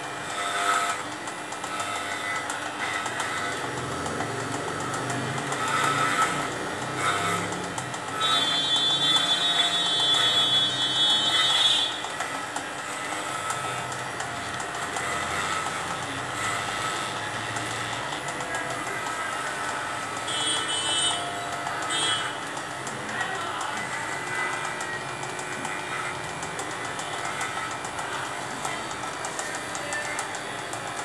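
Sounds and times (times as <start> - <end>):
electric clipper buzzing: 0.0 - 31.0.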